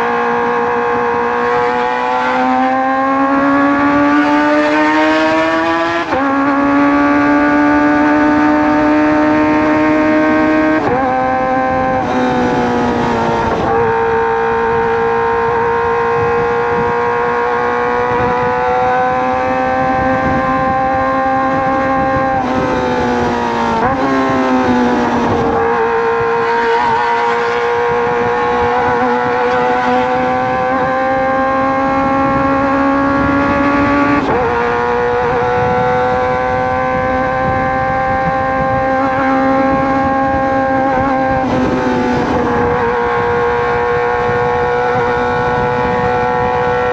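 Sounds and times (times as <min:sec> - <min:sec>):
motorcycle engine at high revs: 0:00.0 - 0:46.9.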